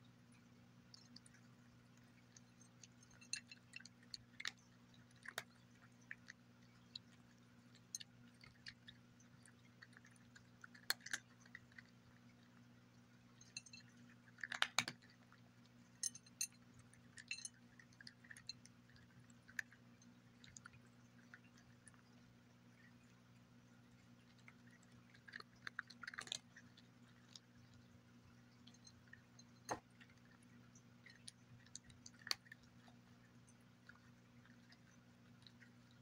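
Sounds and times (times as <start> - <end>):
cat crunching dry kibble: 0.4 - 36.0.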